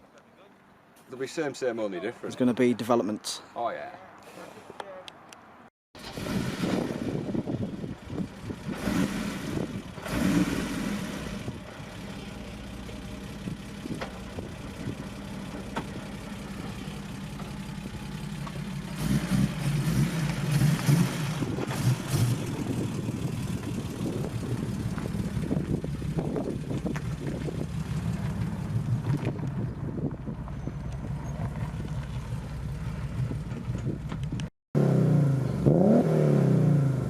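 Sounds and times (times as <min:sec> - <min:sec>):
car engine running and revving: 0:06.0 - 0:37.0.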